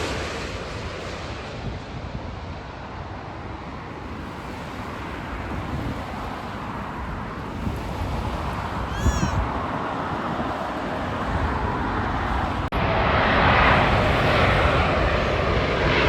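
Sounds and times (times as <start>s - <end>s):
jet airliner roar: 0.0s - 16.0s
wind on microphone: 0.7s - 16.0s.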